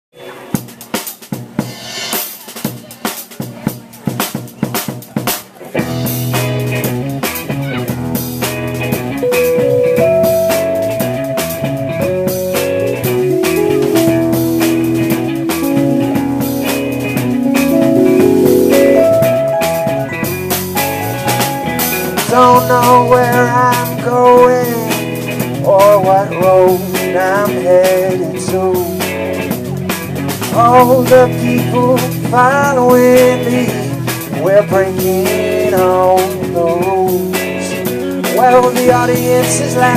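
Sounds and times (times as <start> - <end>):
live band playing: 0.2 - 39.9
drum kit playing: 0.4 - 39.9
held keyboard notes: 7.9 - 39.9.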